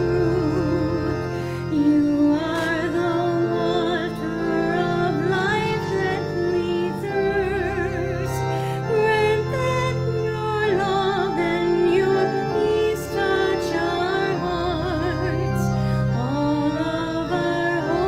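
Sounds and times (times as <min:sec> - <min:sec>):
singer holding notes with vibrato: 0:00.0 - 0:18.0
sustained accompanying chords: 0:00.0 - 0:18.0.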